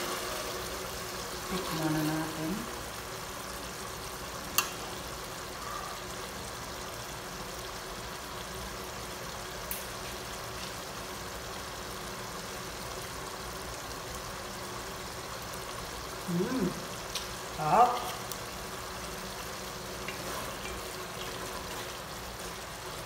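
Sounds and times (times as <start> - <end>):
sauce bubbling in a pot: 0.0 - 23.0.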